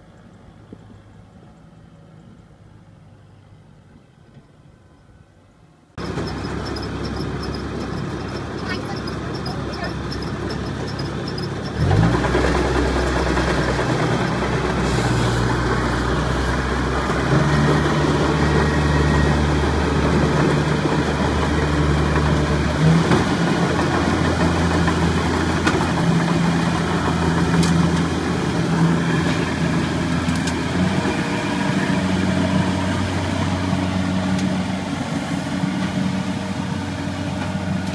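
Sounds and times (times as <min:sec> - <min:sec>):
combine harvester engine revving: 0:06.0 - 0:37.9.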